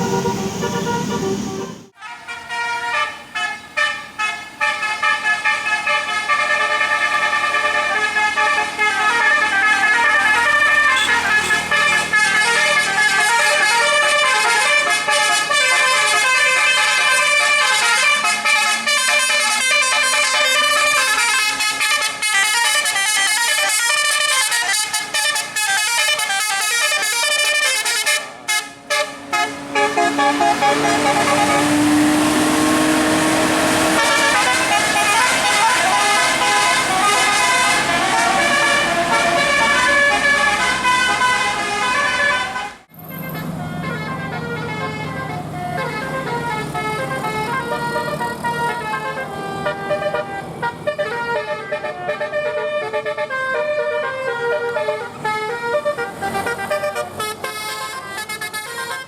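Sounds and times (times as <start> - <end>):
musical air horn: 0.0 - 59.0.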